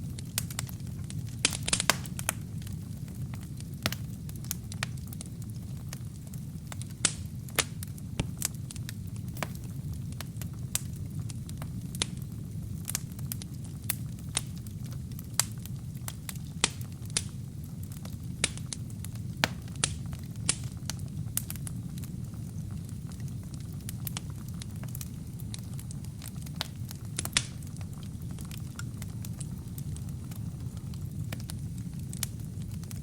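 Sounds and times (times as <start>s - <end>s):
burning logs popping and crackling: 0.0s - 33.0s
low rumble of flames: 0.0s - 33.0s.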